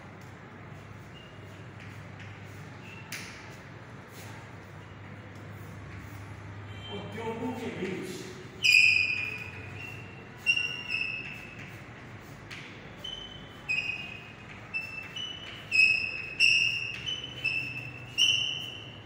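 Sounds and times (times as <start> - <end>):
chalk squeaking on a blackboard: 0.6 - 6.9, 7.5 - 19.0.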